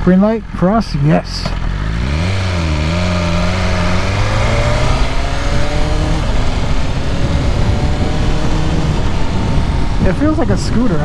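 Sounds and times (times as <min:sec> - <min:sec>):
motorcycle engine accelerating hard: 0:00.0 - 0:11.0.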